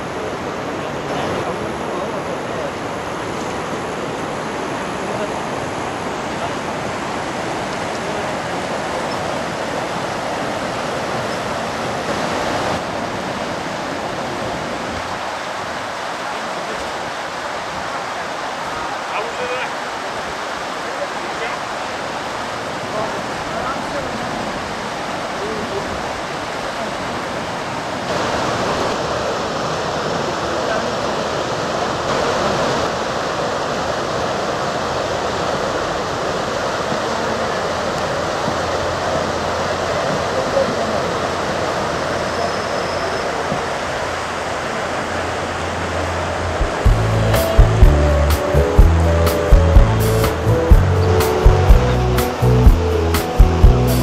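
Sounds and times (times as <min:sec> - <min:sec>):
river rapids over rocks: 0:00.0 - 0:54.0.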